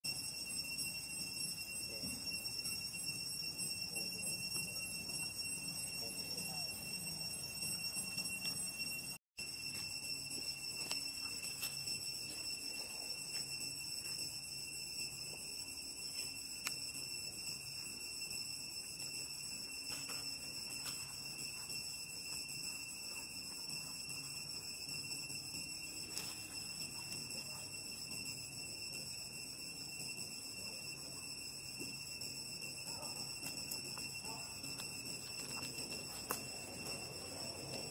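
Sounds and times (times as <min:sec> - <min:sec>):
insects droning: 0:00.1 - 0:37.9.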